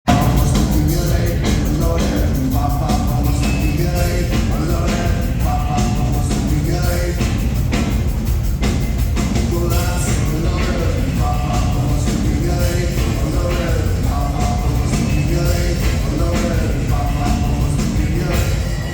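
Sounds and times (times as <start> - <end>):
rock band playing live: 0.0 - 18.9.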